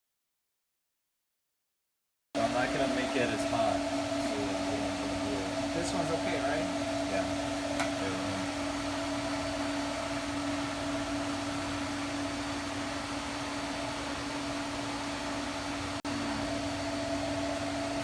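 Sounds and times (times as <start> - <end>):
machine hum with fan hiss: 2.4 - 18.0.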